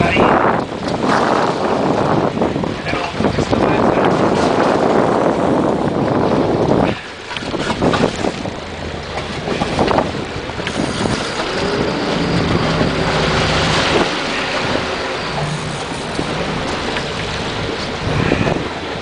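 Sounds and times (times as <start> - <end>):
boat engine hum: 0.0 - 19.0
wind buffeting microphone: 0.0 - 19.0.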